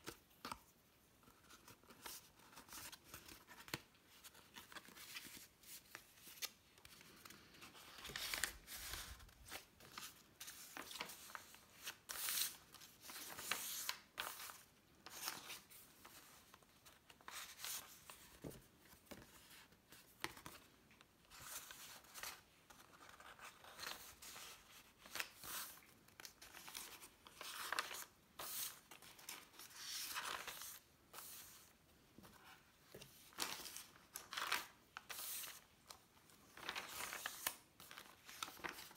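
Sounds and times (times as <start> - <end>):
paper pages rustling: 1.2 - 38.9.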